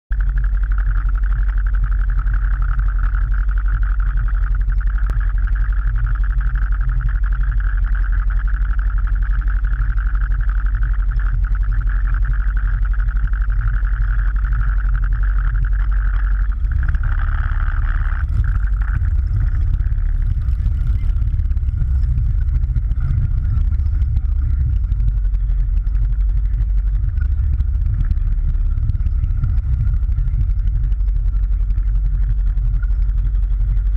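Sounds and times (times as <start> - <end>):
high engine whine: 0.0 - 33.9
motorcycle engine rumble: 0.0 - 33.9.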